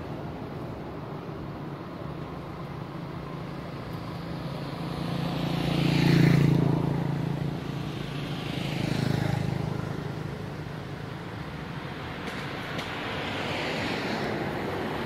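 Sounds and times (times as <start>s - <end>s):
motor vehicles passing: 0.7s - 15.0s.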